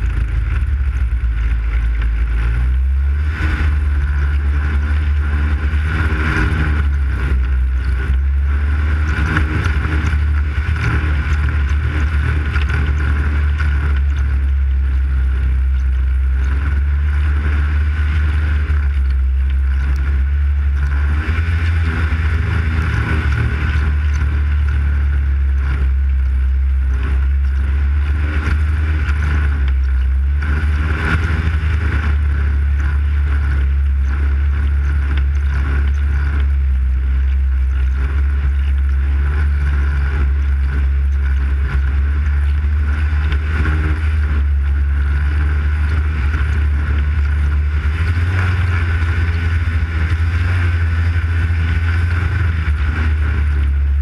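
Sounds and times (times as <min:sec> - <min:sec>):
snowmobile engine droning: 0:00.0 - 0:54.0.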